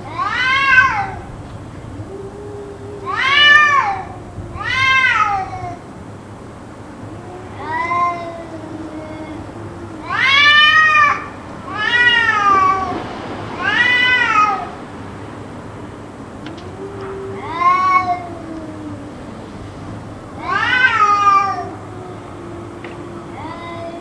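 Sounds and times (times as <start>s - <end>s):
low steady cat moan: 0.0s - 6.0s, 7.0s - 14.7s, 16.4s - 24.0s
cats yowling: 0.0s - 6.2s, 6.8s - 24.0s.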